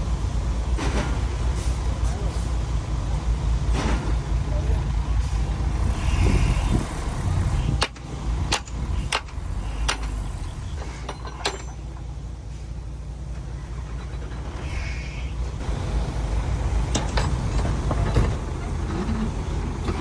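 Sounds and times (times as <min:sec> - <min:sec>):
diesel machinery engine rumbling: 0:00.0 - 0:20.0.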